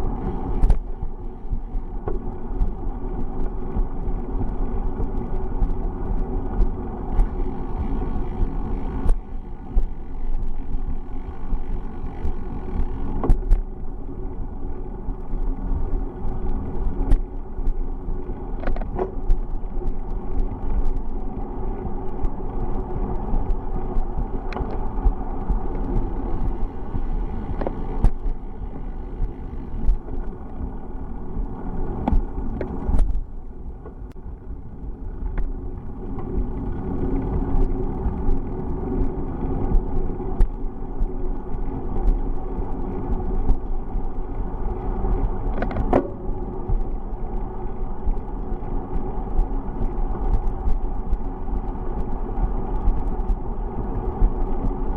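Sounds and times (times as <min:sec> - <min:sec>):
bicycle clicks and rattles: 0:00.0 - 0:54.9
bicycle tyres on road: 0:00.0 - 0:54.9.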